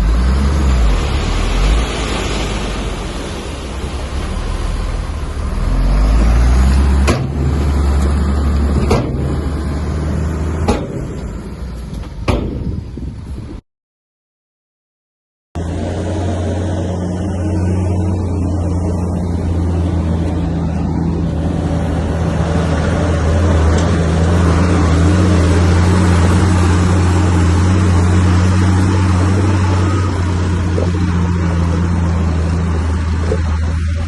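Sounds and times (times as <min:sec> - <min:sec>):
bulldozer diesel engine running: 0:00.0 - 0:12.3, 0:15.6 - 0:34.0.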